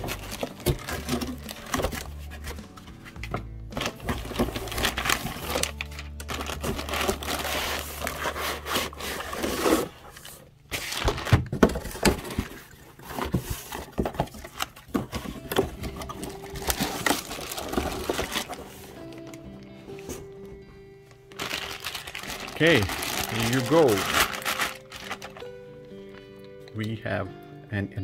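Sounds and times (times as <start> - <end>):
packing knocks and crinkles: 0.0 - 20.6, 21.3 - 26.3.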